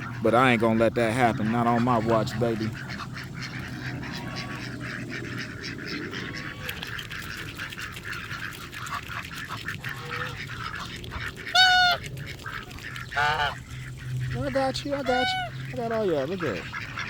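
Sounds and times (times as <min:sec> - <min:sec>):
ducks and geese soft low calls: 0:00.0 - 0:17.0
goose honk: 0:00.0 - 0:17.0.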